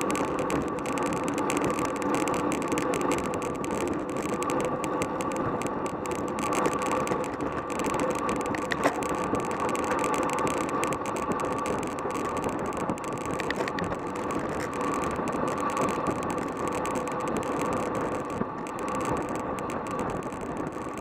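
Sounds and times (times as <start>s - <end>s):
tyres humming on asphalt: 0.0s - 21.0s.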